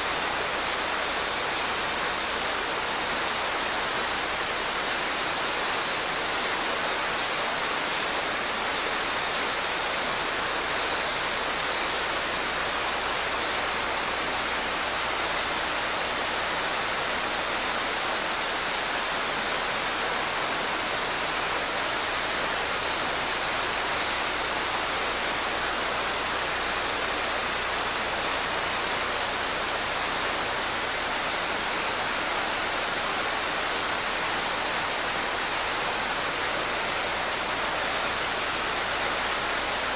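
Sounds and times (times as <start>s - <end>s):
cicadas singing: 0.0s - 39.9s
stream rushing over rocks: 0.0s - 39.9s.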